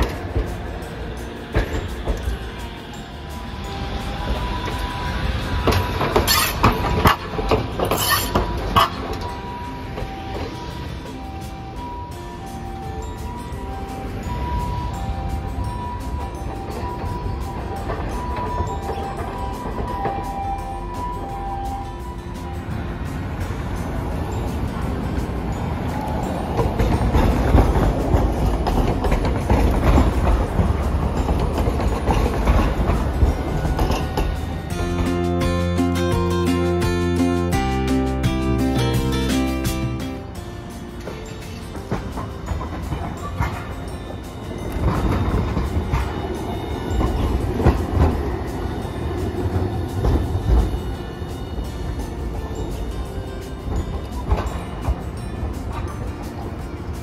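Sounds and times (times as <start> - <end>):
low tram rumble: 0.0 - 57.0
tram wheels clacking over rails: 0.0 - 57.0.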